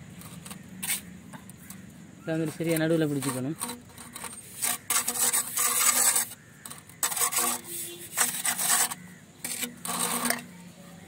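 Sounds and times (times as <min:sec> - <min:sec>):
trowel scraping mortar: 0:00.0 - 0:11.0.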